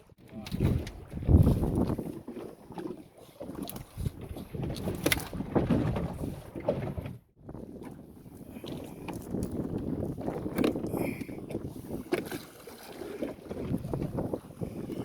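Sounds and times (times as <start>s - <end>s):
wind buffeting microphone: 0.5s - 2.2s, 3.7s - 12.4s, 13.2s - 15.0s.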